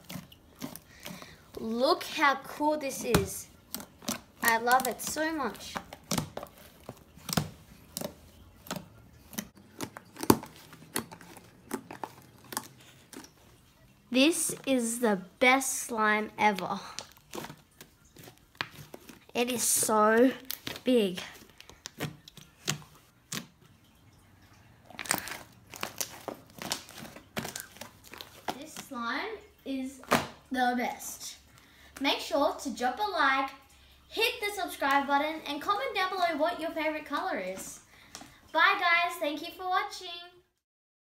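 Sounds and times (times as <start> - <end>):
slime squelching: 0.0 - 39.9.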